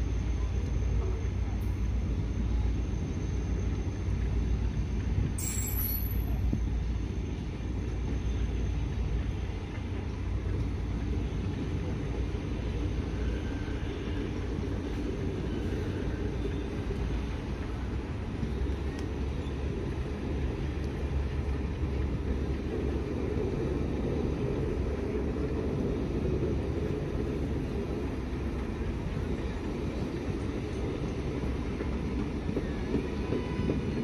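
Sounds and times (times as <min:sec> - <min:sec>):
train coaches rumbling past: 0:00.0 - 0:34.0.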